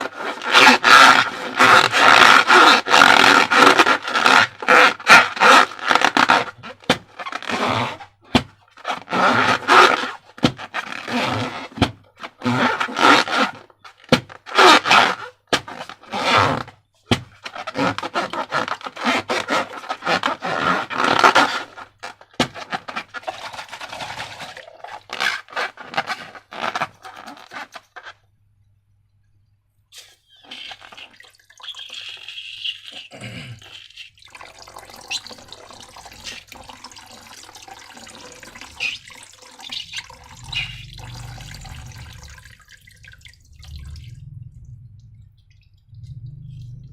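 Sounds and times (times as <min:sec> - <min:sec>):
balloons rubbed and squeezed: 0:00.0 - 0:28.2, 0:30.0 - 0:42.5.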